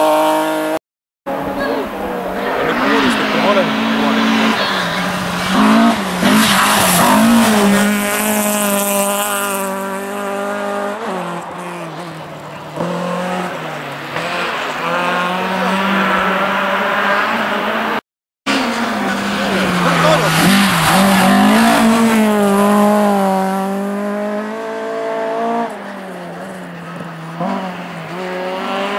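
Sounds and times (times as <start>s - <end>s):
rally car engine at high revs: 0.0s - 28.9s.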